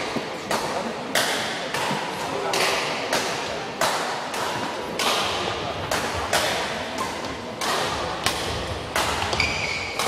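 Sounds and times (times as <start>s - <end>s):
rackets hitting shuttlecock: 0.0s - 10.0s.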